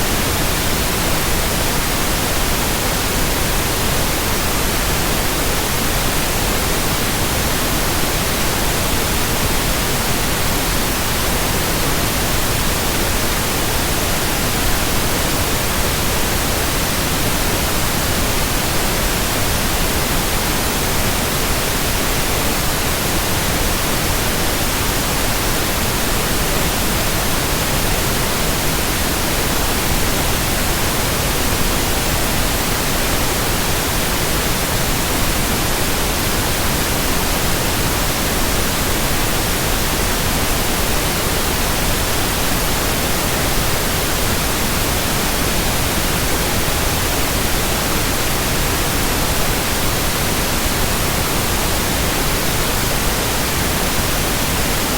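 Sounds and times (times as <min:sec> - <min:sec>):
white noise hiss: 0:00.0 - 0:54.9.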